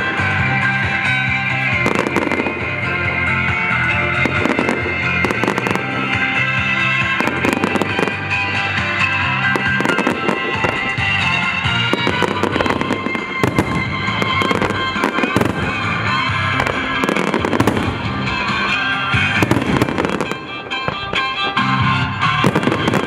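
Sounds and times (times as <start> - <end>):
fireworks bursting and crackling: 0.0 - 23.0
loud music: 0.0 - 23.0.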